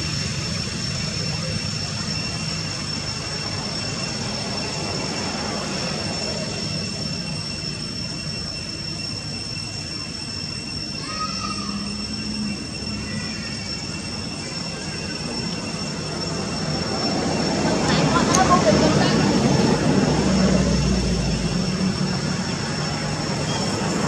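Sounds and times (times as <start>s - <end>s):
constant high-pitched tones: 0.0s - 24.0s.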